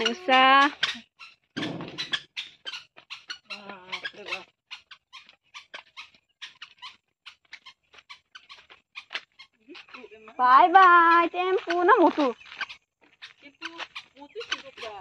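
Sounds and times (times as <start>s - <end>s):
footsteps on dirt path: 0.0s - 15.0s.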